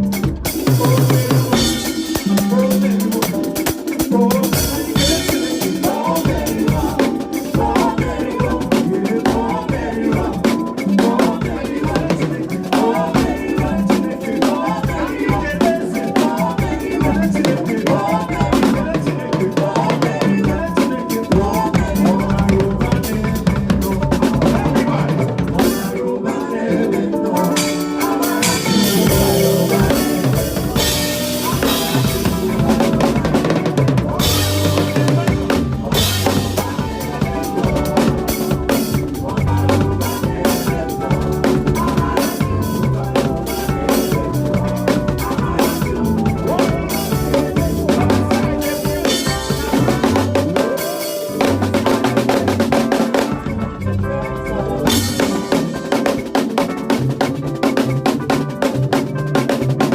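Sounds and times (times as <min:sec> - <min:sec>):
backing music: 0:00.0 - 0:59.9
drum kit groove: 0:00.0 - 0:59.9.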